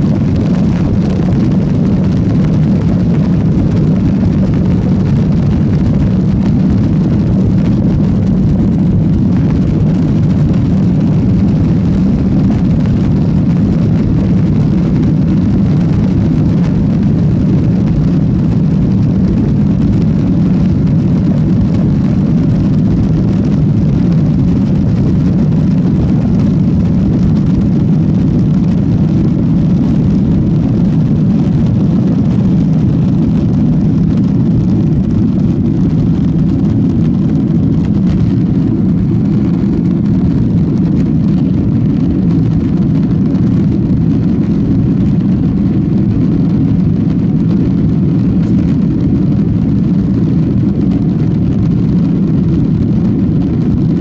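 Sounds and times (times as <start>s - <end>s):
airflow over fuselage: 0.0s - 54.0s
jet engines at climb power: 0.0s - 54.0s.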